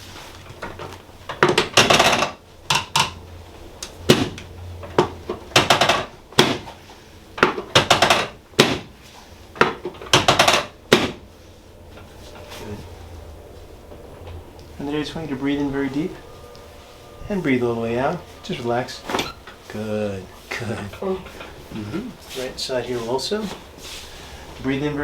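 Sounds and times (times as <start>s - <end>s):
chiropractic equipment clacking: 0.4s - 12.6s, 13.4s - 23.8s.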